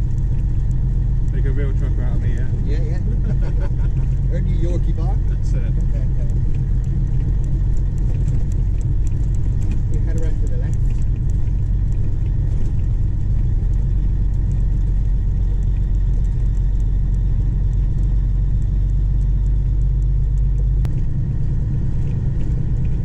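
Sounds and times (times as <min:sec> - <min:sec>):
truck diesel engine rumbling: 0:00.0 - 0:23.0.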